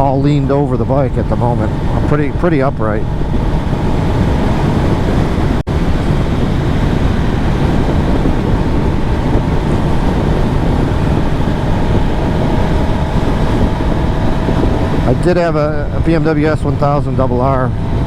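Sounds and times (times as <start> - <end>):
motorcycle engine running: 0.0 - 18.0
wind rush over microphone: 0.0 - 18.0.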